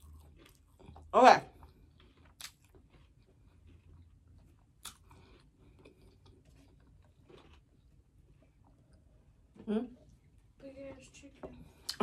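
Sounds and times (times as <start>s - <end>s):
person chewing food: 0.0s - 10.4s.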